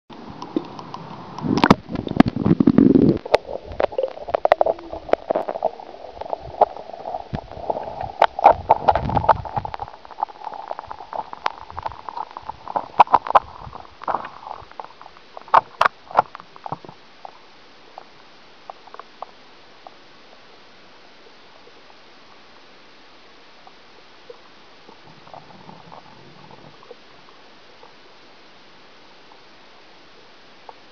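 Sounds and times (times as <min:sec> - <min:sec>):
faint hiss: 0:00.1 - 0:30.9
underwater gurgling and sloshing: 0:00.1 - 0:30.9.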